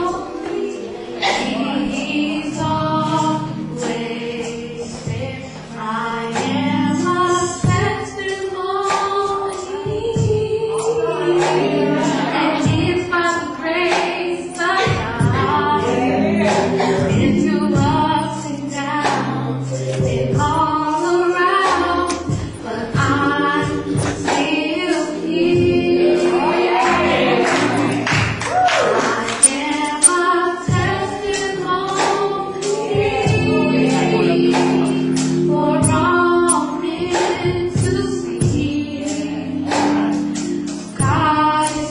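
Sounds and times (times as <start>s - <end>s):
women singing gospel song: 0.0s - 41.9s.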